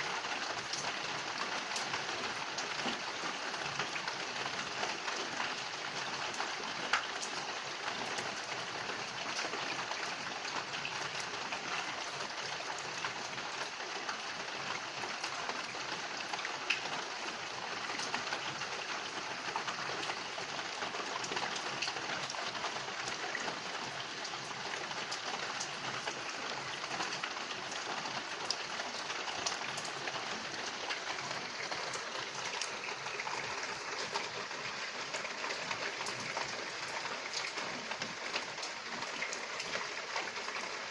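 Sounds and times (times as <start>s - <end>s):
steady rain hiss: 0.0s - 40.9s
raindrops ticking: 0.2s - 40.9s.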